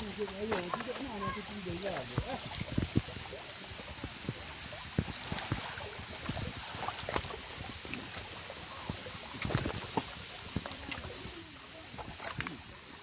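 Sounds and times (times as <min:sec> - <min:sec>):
steady high-pitched hiss: 0:00.0 - 0:13.0
water and mud splashing: 0:00.0 - 0:13.0.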